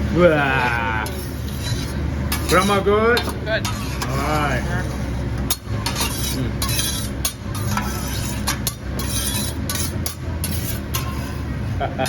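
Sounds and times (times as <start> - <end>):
sizzling: 0.0 - 11.6
steady low hum: 0.0 - 12.0
metal spatula scraping griddle: 0.1 - 12.0.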